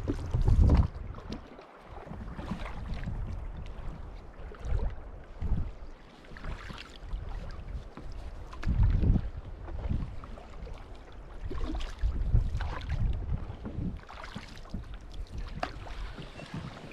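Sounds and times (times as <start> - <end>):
gusty wind on microphone: 0.0 - 14.1
water splashing around canoe: 0.0 - 16.9.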